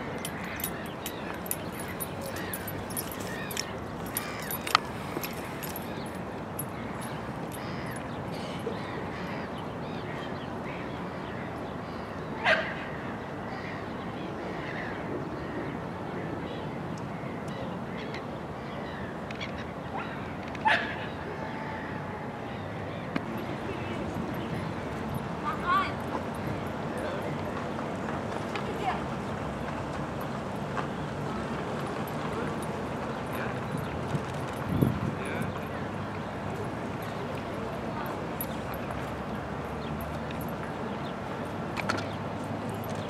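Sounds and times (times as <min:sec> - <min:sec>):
steady background noise: 0:00.0 - 0:43.0.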